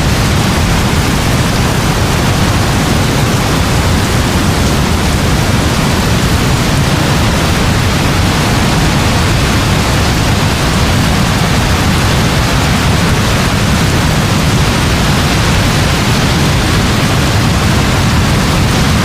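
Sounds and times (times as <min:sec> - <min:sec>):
deep steady rumble: 0:00.0 - 0:19.0
heavy rain hissing: 0:00.0 - 0:19.0.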